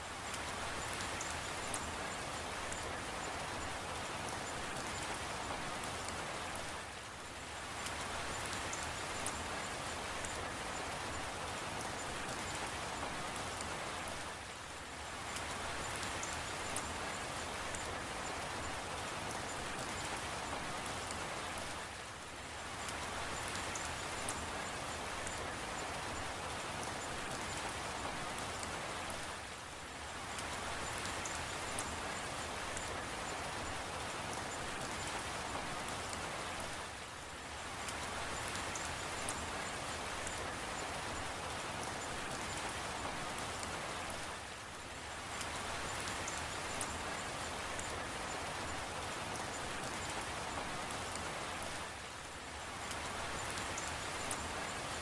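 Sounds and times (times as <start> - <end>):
rain patter: 0.0 - 55.0.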